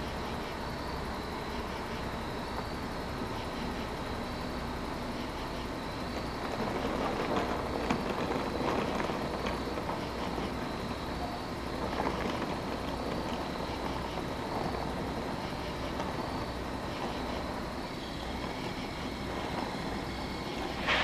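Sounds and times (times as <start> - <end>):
electric train running: 0.0 - 21.0.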